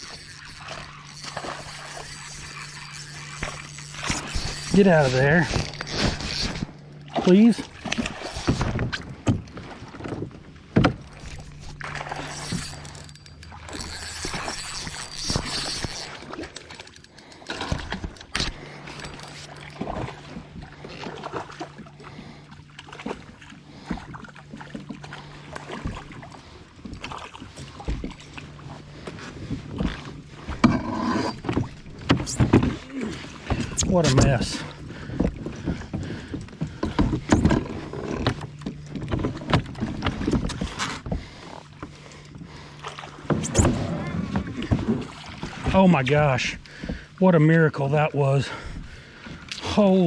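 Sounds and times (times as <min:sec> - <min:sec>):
knocks and clatter in a kayak: 0:00.0 - 0:47.8
low steady hum: 0:00.0 - 0:50.0
water noise: 0:00.0 - 0:50.0.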